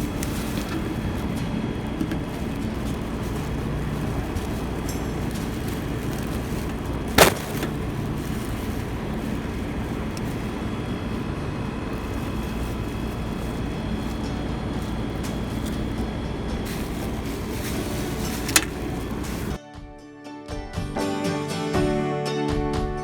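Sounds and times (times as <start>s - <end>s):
low rumbling background noise: 0.0s - 19.6s.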